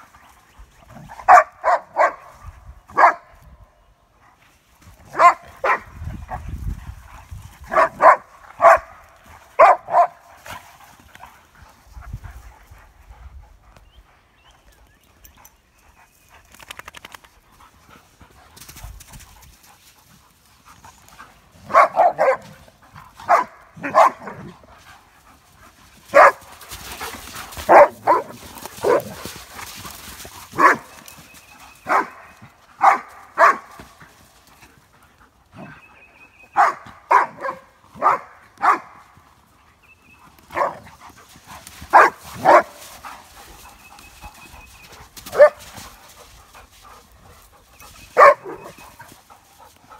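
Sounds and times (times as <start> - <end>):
dogs play barking: 0.8 - 3.5, 4.2 - 12.9, 19.2 - 49.9.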